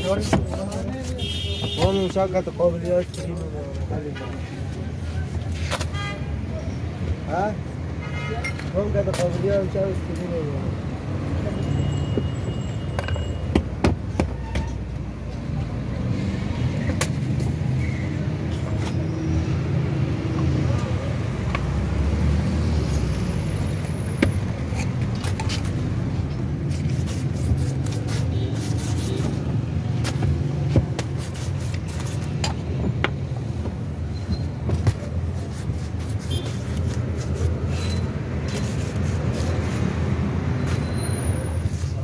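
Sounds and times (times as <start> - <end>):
street traffic rumble: 0.0 - 42.0.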